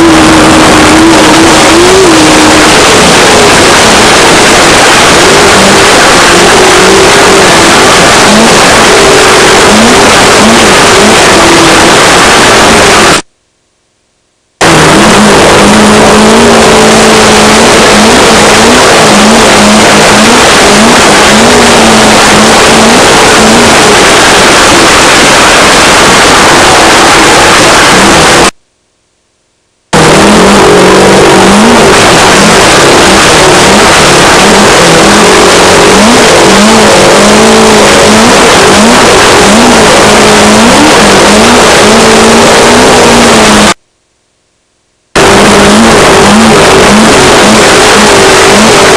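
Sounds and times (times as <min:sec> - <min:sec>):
race car engine revving: 0:00.0 - 0:13.3, 0:14.6 - 0:28.6, 0:29.9 - 0:43.8, 0:45.2 - 0:48.9.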